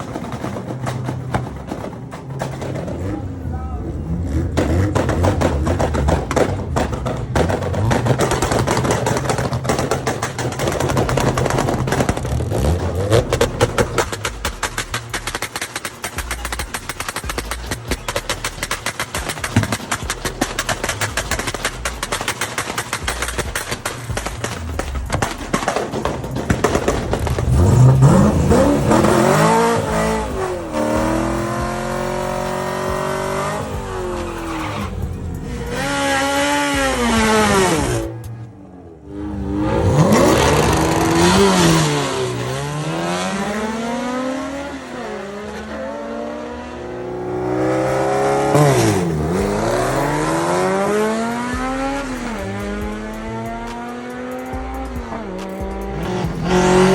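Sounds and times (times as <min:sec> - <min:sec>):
racing car engine revving: 0:00.0 - 0:56.9.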